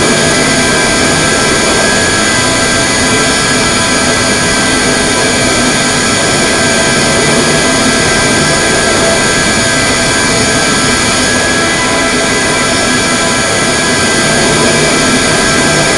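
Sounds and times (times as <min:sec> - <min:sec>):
jet engines roaring with whine: 0:00.0 - 0:15.9.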